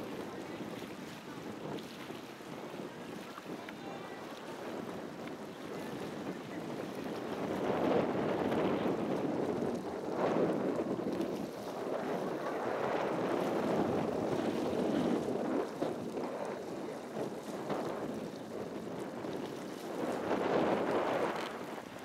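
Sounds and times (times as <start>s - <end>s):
wind blowing across microphone: 0.0s - 22.0s.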